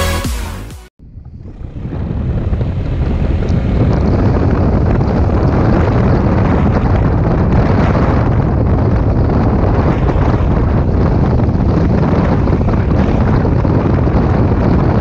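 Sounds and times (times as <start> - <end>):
wind rushing over microphone: 1.0 - 15.0
scooter engine and road noise: 1.1 - 15.0.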